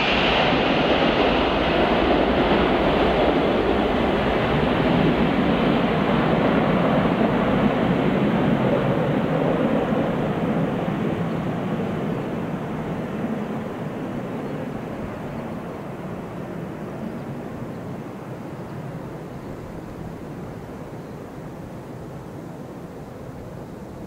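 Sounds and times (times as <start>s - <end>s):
jet engines rushing: 0.0s - 20.5s.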